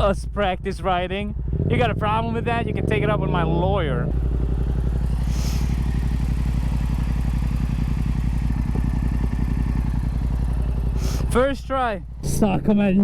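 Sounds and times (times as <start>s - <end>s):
motorcycle engine running steadily: 0.0s - 13.0s.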